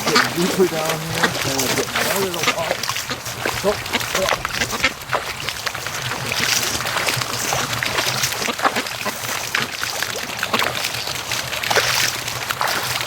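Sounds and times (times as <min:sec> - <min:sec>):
ducks splashing in water: 0:00.0 - 0:13.0.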